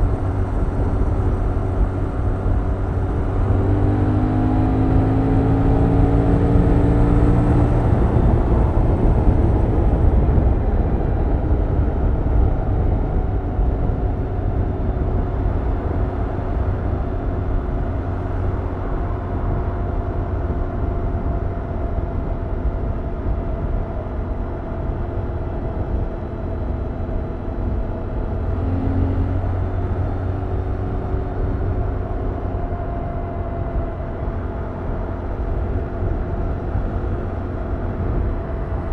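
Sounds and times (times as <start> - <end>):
constant rushing noise: 0.0 - 38.9.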